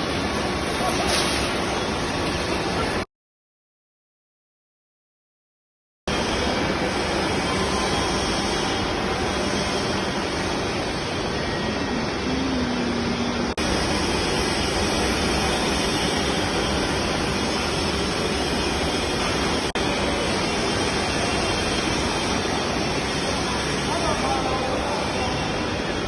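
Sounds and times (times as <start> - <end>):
loud machine noise: 0.0 - 3.0, 6.1 - 26.0.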